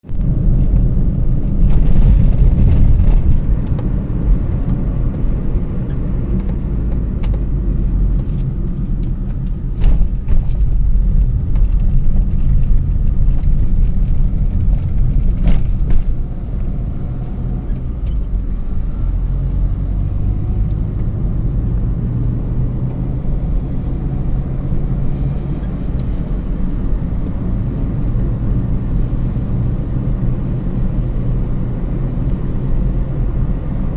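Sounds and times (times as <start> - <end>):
engine rumbling: 0.0 - 33.9.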